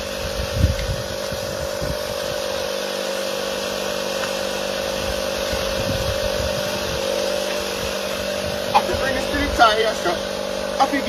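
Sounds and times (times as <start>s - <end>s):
motor droning hum: 0.0s - 11.0s.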